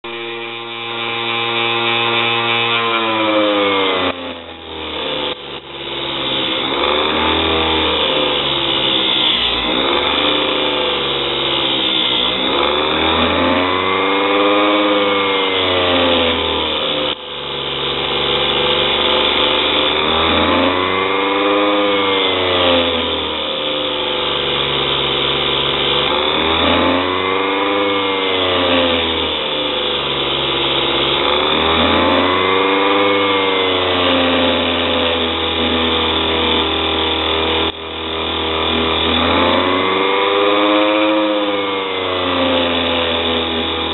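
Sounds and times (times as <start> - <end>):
grinder motor running: 0.0 - 43.9
metal bit grinding on wheel: 0.1 - 43.9.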